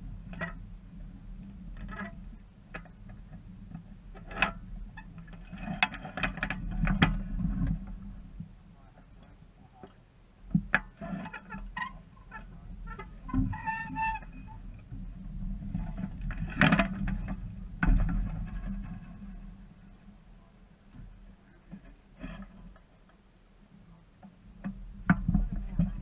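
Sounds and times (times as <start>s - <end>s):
steady low rumble: 0.0s - 10.8s, 12.0s - 26.0s
sailboat lines clicking and knocking: 0.0s - 23.4s, 24.0s - 26.0s.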